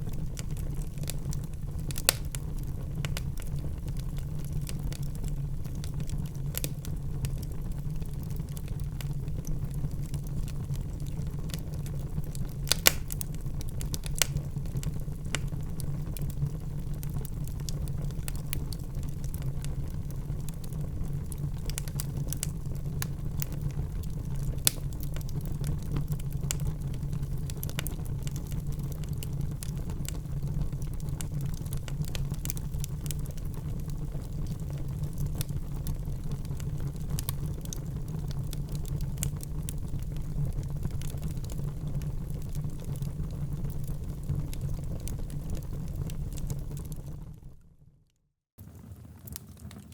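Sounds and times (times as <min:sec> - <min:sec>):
fireplace fire crackling: 0:00.0 - 0:47.6, 0:48.6 - 0:49.9.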